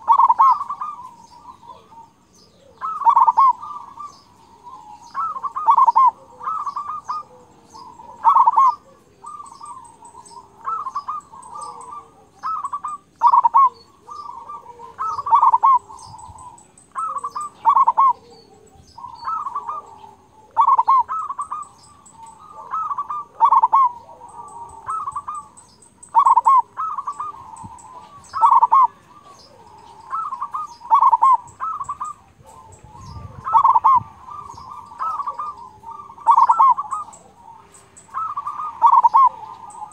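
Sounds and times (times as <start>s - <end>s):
dove cooing: 0.0s - 39.9s
faint high-pitched chirping: 0.0s - 39.9s.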